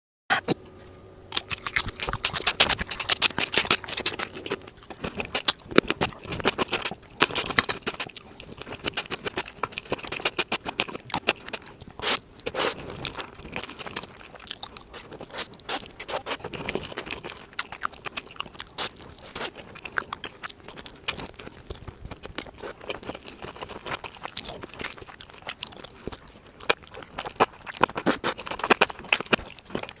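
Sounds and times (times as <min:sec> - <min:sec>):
crisp crunching while chewing: 0:01.3 - 0:30.0.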